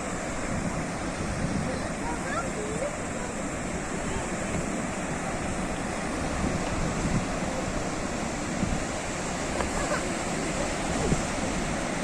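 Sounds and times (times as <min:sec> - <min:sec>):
sea waves breaking on shore: 0:00.0 - 0:12.0.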